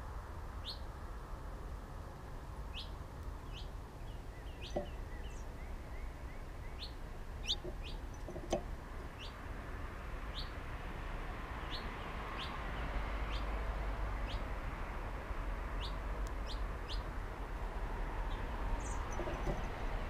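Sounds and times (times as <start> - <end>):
songbird chirping: 0.6 - 1.0, 2.6 - 14.6, 15.6 - 20.0.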